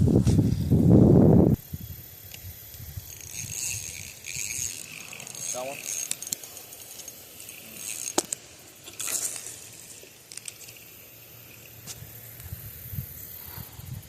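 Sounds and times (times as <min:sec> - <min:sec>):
rustling hiss: 0:00.0 - 0:14.0
fishing reel clicks: 0:01.6 - 0:13.6.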